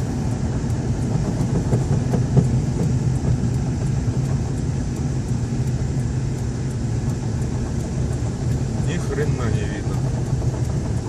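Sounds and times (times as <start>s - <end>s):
car engine and road rumble: 0.0s - 11.0s
faint ticks: 0.2s - 11.0s.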